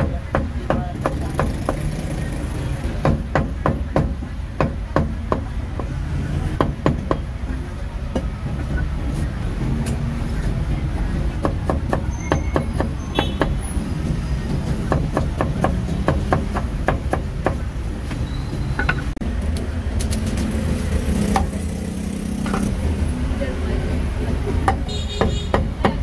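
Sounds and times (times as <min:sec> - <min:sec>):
low rumble of street traffic: 0:00.0 - 0:26.0.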